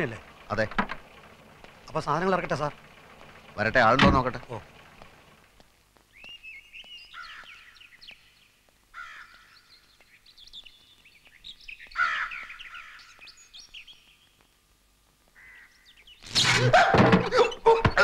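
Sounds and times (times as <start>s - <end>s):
birds calling and chirping: 0.0s - 14.6s, 15.2s - 18.0s.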